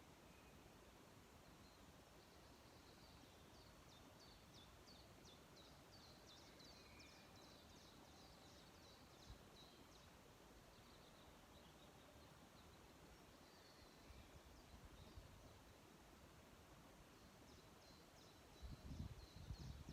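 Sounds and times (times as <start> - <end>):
background hiss: 0.0 - 19.9
songbird singing: 0.0 - 19.9.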